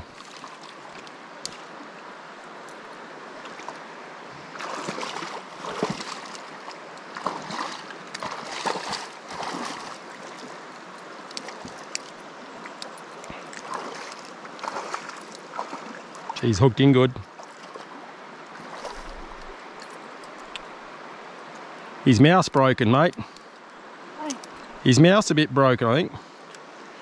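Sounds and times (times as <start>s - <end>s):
stream running: 0.0s - 27.0s.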